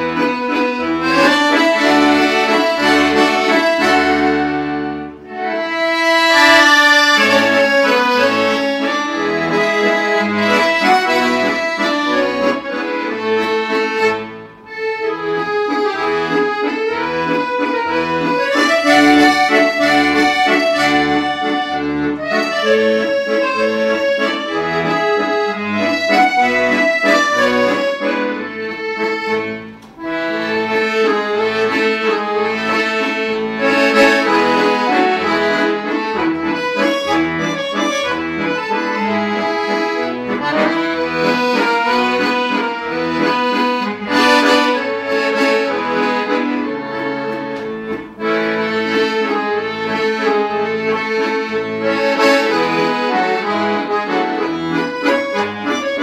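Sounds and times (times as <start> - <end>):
instrumental music with pulsing bass: 0.0 - 56.0.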